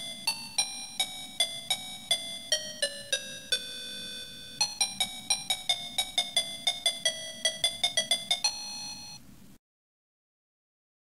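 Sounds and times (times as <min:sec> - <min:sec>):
simple electronic melody: 0:00.0 - 0:09.2.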